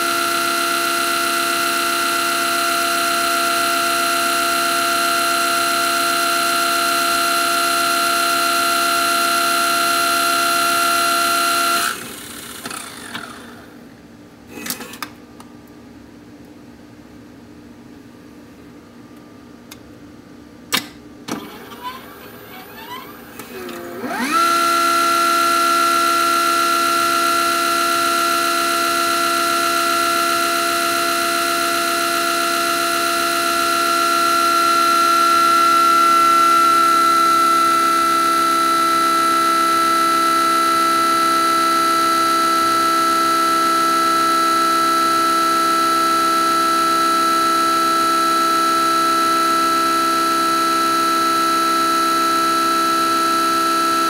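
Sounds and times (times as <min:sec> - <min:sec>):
machine motor whine: 0:00.0 - 0:13.8, 0:21.3 - 0:54.0.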